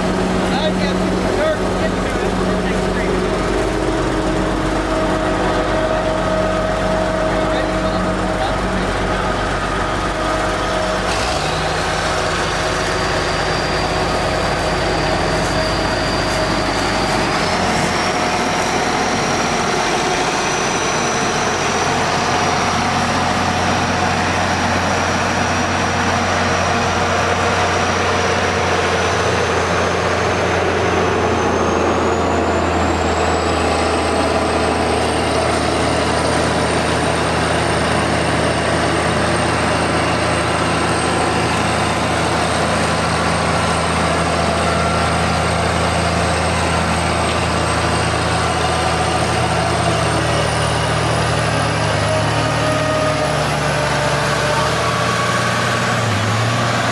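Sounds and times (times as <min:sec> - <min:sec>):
heavy diesel engine under load: 0:00.0 - 0:56.9
high machine whine: 0:00.0 - 0:56.9.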